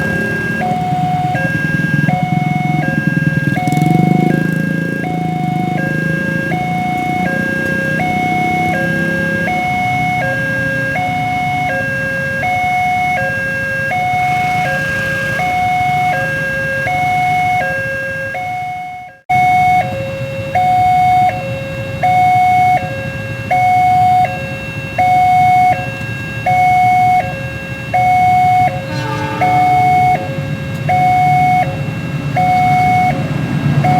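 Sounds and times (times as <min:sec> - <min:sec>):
level crossing two-tone alarm: 0:00.0 - 0:33.9
road traffic: 0:00.0 - 0:33.9.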